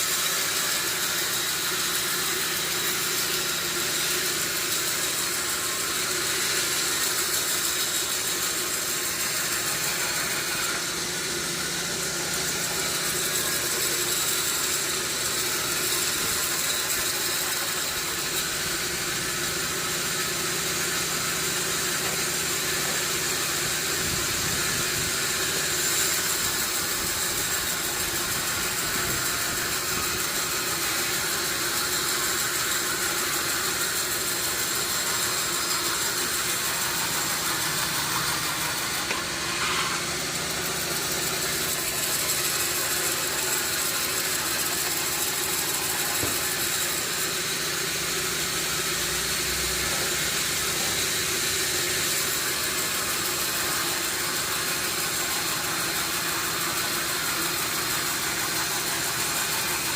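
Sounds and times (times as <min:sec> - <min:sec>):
sawmill machinery whining: 0:00.0 - 0:59.9.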